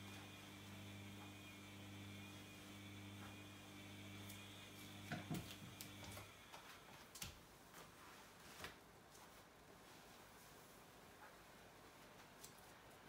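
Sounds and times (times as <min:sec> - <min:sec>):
washing machine electrical hum: 0:00.0 - 0:13.0.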